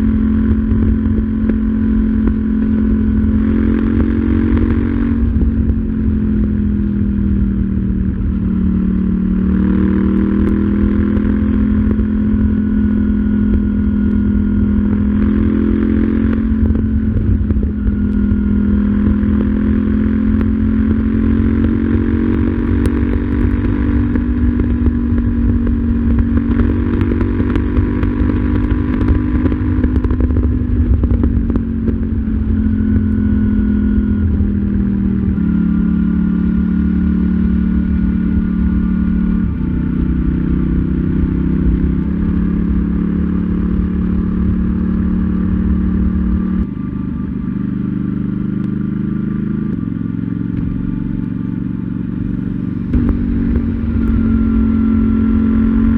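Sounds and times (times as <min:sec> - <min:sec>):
low rush of wind: 0:00.0 - 0:55.9
motorcycle engine running: 0:00.0 - 0:55.9.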